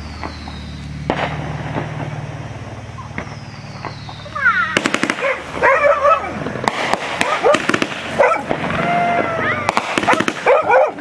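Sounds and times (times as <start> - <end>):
fireworks popping and cracking: 0.0 - 11.0
steady low hum: 0.0 - 11.0.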